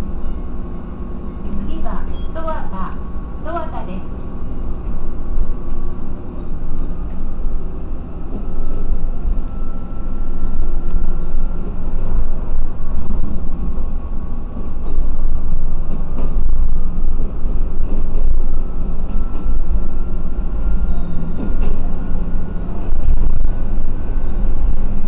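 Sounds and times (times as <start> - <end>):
diesel railcar engine rumbling: 0.0 - 25.0.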